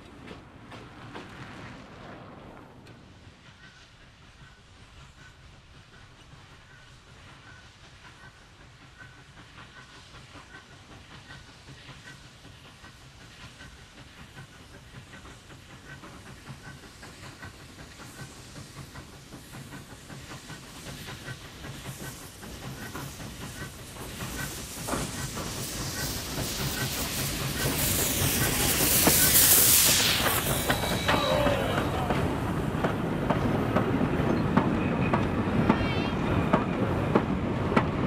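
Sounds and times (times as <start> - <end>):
steam hissing: 3.0 - 38.0
steam locomotive chuffing: 3.0 - 38.0.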